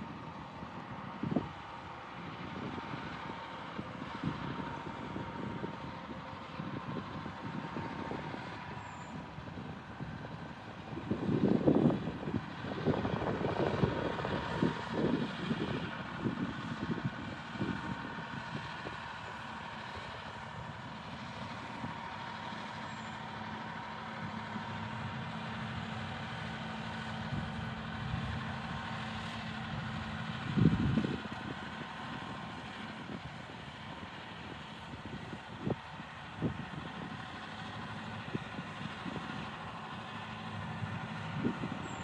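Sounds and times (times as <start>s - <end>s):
distant vehicle engine hum: 0.0s - 42.0s
wind buffeting microphone: 0.0s - 42.0s.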